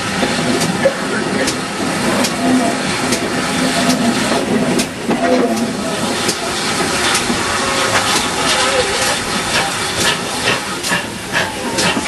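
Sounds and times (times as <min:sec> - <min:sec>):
railway carriage rumbling and rattling: 0:00.0 - 0:12.0.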